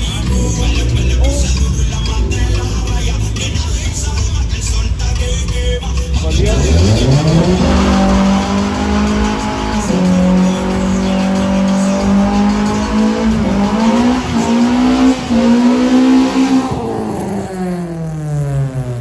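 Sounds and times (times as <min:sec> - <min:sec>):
car engine revving high: 0:00.0 - 0:05.0, 0:06.1 - 0:19.0
tyres squealing: 0:00.0 - 0:17.3.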